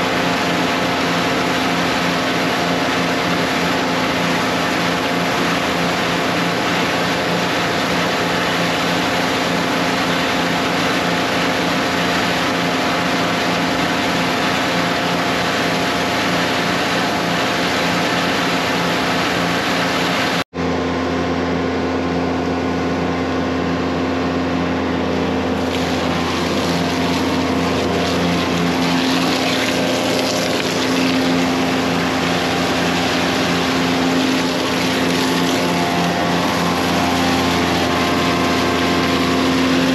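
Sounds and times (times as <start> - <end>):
high-pressure water jetting: 0.0 - 20.4, 25.3 - 39.9
tanker engine and pumps droning: 0.0 - 39.9.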